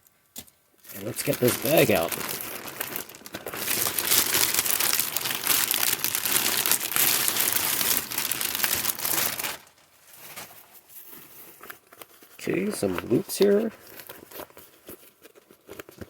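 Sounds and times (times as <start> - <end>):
plastic bag crinkling: 0.8 - 16.0.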